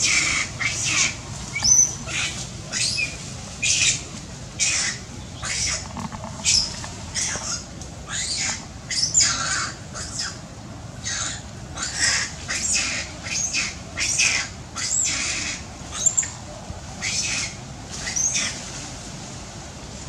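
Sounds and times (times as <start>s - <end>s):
macaques shrieking: 0.0s - 4.0s, 4.6s - 10.4s, 11.0s - 16.4s, 17.0s - 18.6s.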